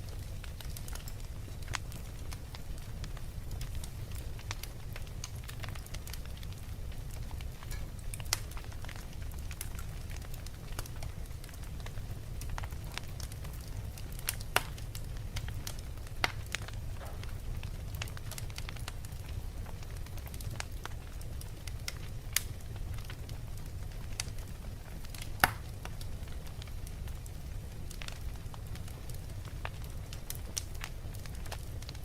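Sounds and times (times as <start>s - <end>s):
fire crackling: 0.0s - 32.0s
fire popping: 0.0s - 32.0s.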